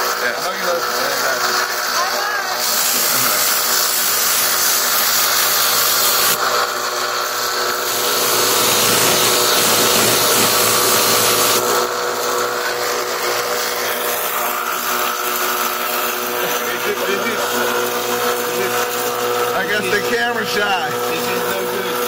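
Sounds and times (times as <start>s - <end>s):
grinder grinding steel blade: 0.0s - 22.0s.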